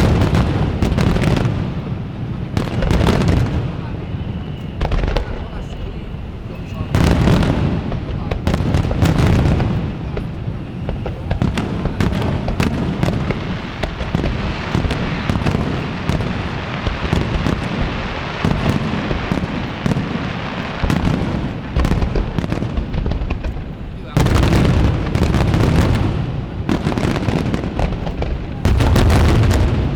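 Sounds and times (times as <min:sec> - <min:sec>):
fireworks crackling and popping: 0:00.0 - 0:29.9.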